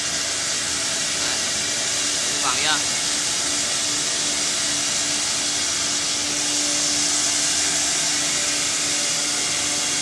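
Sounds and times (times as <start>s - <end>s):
cnc router running: 0.0s - 10.0s.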